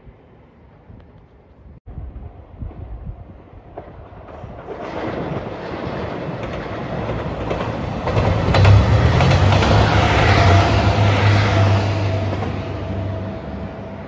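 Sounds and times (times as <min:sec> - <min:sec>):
train rumble passing: 0:01.9 - 0:14.0.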